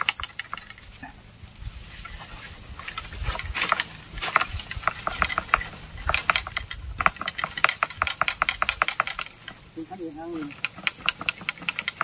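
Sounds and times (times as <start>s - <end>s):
high-pitched insect drone: 0.0s - 12.0s
leaves and twigs crackling: 0.0s - 12.0s.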